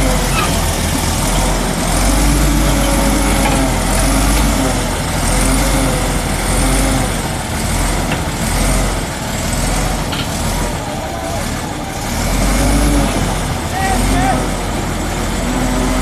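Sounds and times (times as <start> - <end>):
bulldozer diesel engine pulsing: 0.0 - 16.0.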